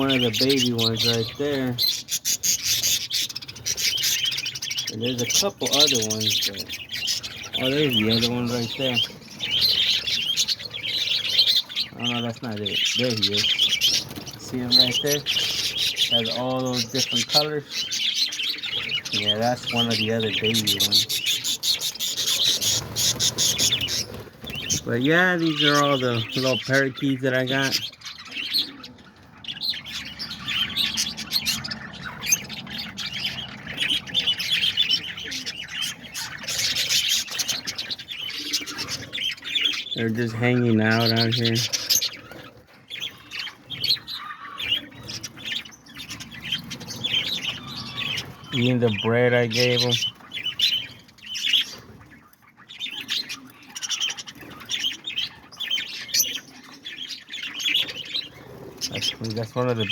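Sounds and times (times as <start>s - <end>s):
parakeets chirping and chattering: 0.0s - 59.9s.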